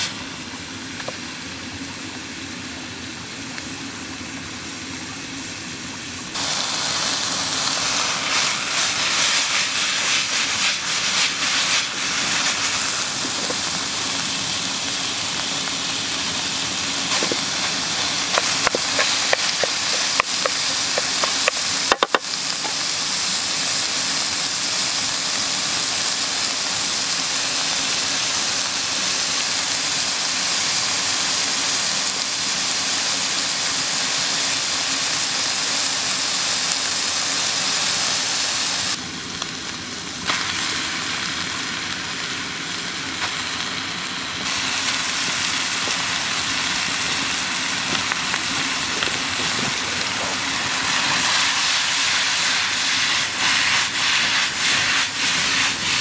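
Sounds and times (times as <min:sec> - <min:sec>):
meat sizzling in a frying pan: 0:06.3 - 0:56.0.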